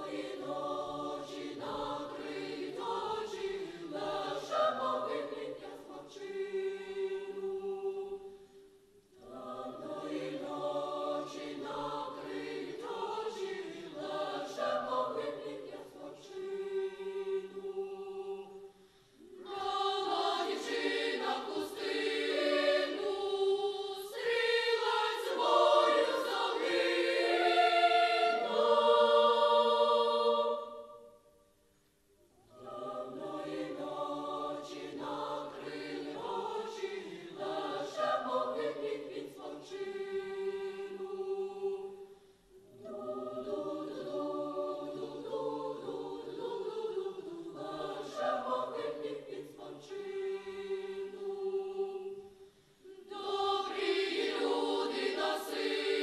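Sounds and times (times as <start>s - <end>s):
children's choir singing: 0.0s - 8.4s, 9.1s - 31.4s, 32.4s - 56.0s.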